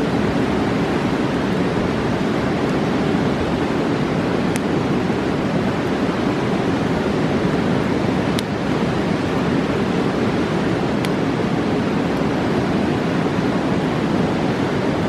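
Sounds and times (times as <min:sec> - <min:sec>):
faint campfire crackles: 0:00.0 - 0:15.0
river rushing: 0:00.0 - 0:15.0.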